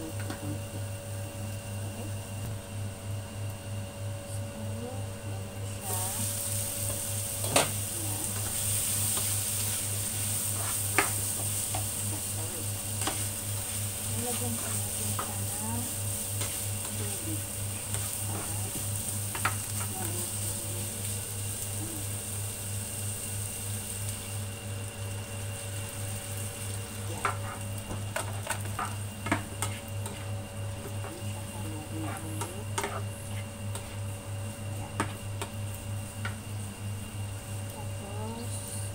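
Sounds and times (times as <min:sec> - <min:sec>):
vegetables sizzling in a frying pan: 0:05.6 - 0:38.9.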